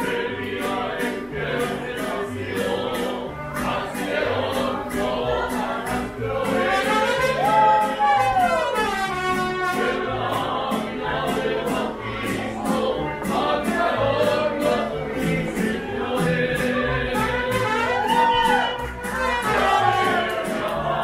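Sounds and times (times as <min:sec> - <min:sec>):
strummed guitars: 0:00.0 - 0:21.0.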